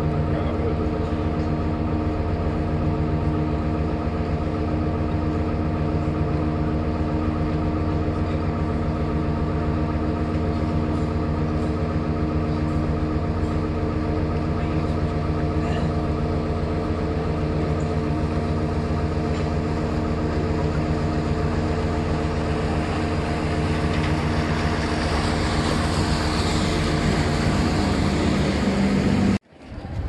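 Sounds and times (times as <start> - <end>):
boat diesel engine humming: 0.0 - 30.0
churning water rushing: 0.0 - 30.0.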